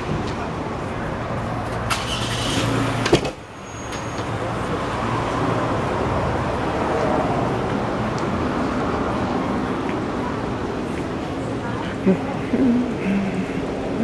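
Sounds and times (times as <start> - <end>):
passing cars: 0.0 - 14.0.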